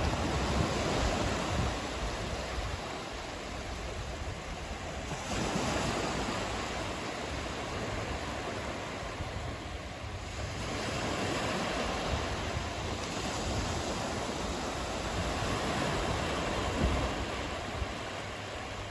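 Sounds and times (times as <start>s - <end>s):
waves washing up beach: 0.0s - 18.9s
wind rumble on microphone: 0.0s - 18.9s.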